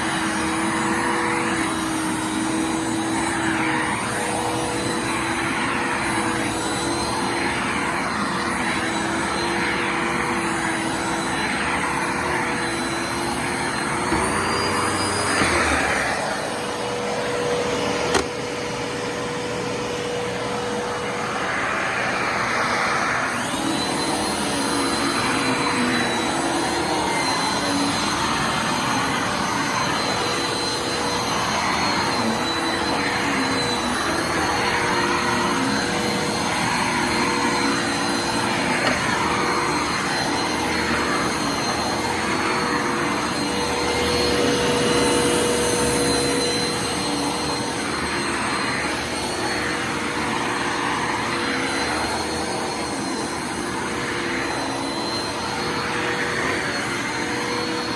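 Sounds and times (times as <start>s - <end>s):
vacuum cleaner motor whine: 0.0s - 57.9s.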